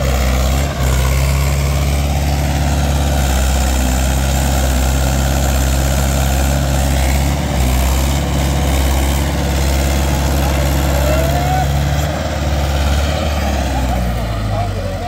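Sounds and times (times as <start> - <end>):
tractor diesel engine working hard: 0.0 - 15.0.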